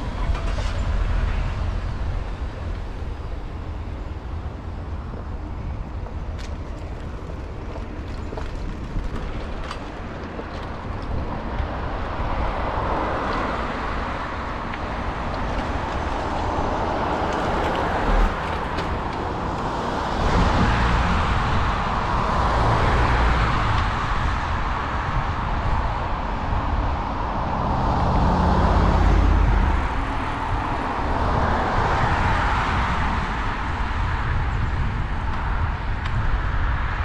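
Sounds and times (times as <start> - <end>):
road traffic passing: 0.0 - 37.0
wind rushing over microphone: 0.0 - 37.0.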